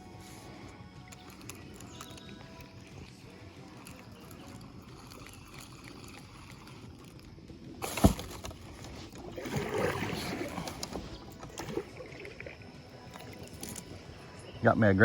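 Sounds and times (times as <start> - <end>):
water and kayak noise: 0.0 - 15.0.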